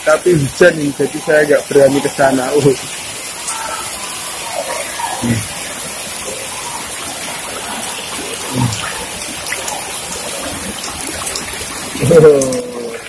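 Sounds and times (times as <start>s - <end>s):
heavy rain on paving: 0.0s - 13.0s.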